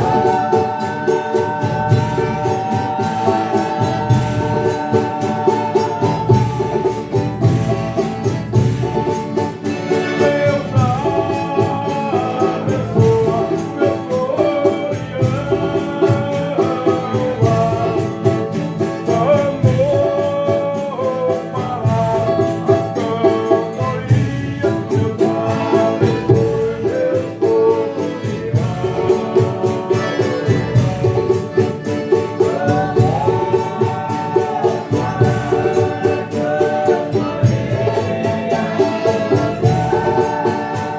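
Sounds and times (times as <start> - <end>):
group singing: 0.0 - 40.9
strummed strings: 0.0 - 40.9
tambourine rhythm: 0.0 - 40.9.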